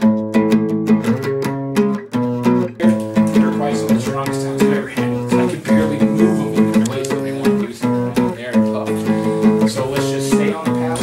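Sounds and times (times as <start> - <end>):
acoustic guitar picking and strumming: 0.0 - 11.0.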